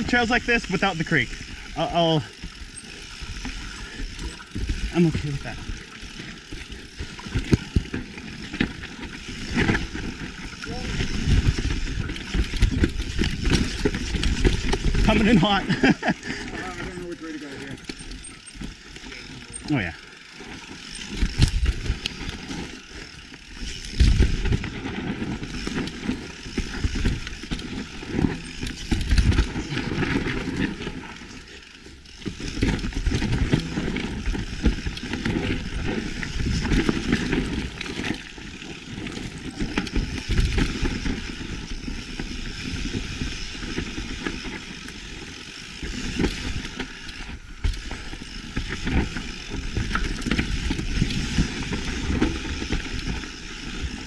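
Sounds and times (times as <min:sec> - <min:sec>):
bike rattling: 0:00.0 - 0:54.0
bike tyres rolling over rocks: 0:00.0 - 0:54.0.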